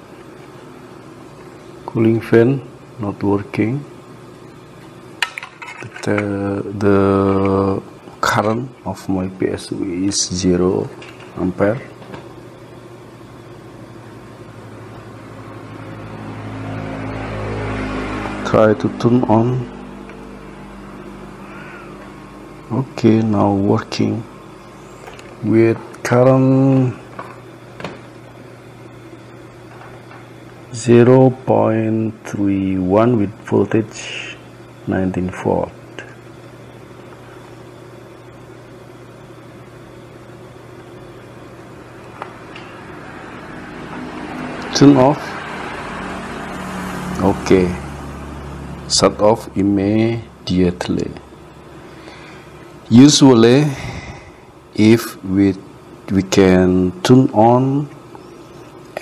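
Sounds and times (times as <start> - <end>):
faint fan whir: 0.0 - 59.0
motor humming: 0.0 - 59.0.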